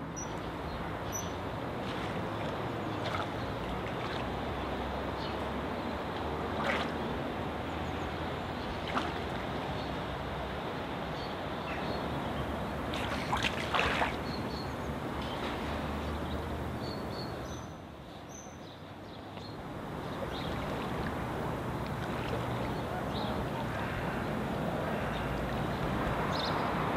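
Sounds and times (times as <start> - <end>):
lake water: 0.0 - 26.9
wind: 0.0 - 26.9.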